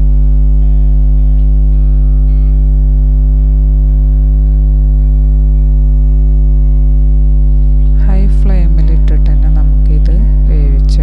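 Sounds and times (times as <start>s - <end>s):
background music sustained tones: 0.0s - 11.0s.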